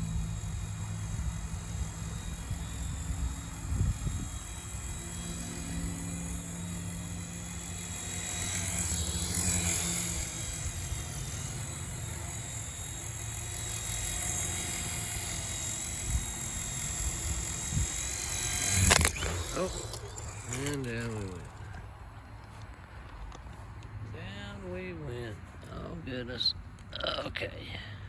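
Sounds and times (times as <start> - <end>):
rc helicopter motor whining: 0.0 - 26.0.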